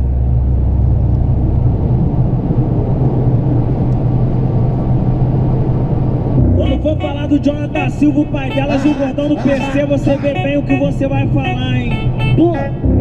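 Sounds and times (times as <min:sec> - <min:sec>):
road rumble: 0:00.0 - 0:12.9
car engine drone: 0:00.0 - 0:13.0.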